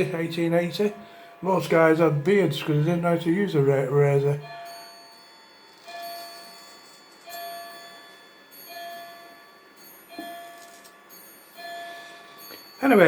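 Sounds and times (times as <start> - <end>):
clock bell striking: 0.0 - 13.0.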